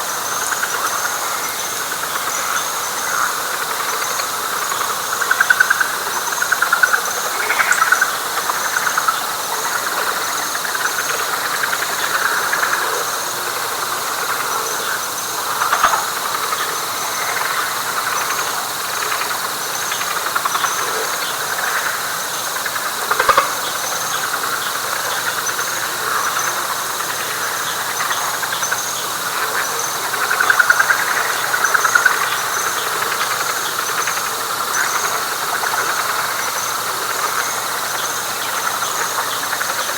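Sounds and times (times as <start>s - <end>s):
frogs chorus pulsing: 0.0s - 39.9s.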